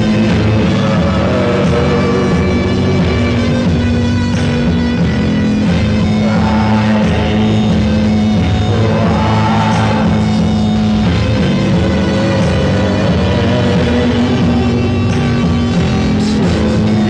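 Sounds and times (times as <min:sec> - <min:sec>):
loud rock music with guitar: 0:00.0 - 0:17.0.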